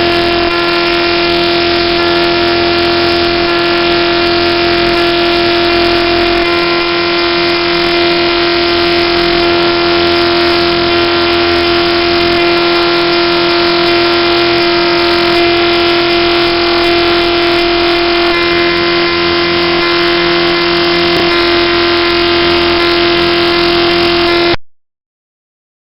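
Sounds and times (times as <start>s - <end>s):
harsh synthesized buzz: 0.0s - 24.6s
steady held tone: 0.0s - 24.6s.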